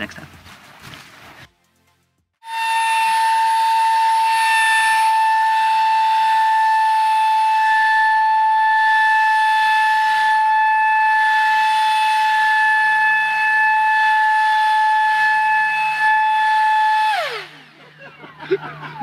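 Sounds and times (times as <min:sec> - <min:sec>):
ducted fan high-pitched whine: 0:02.4 - 0:19.0.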